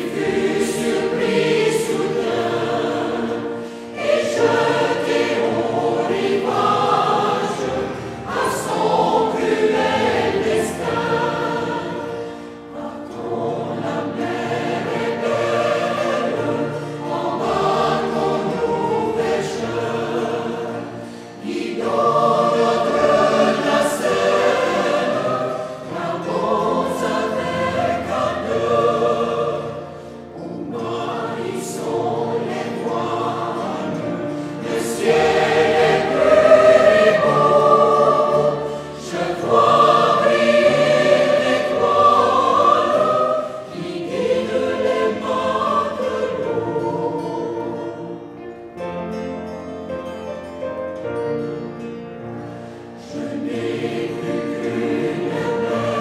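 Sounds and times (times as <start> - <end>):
choir singing sustained chords: 0.0 - 56.0.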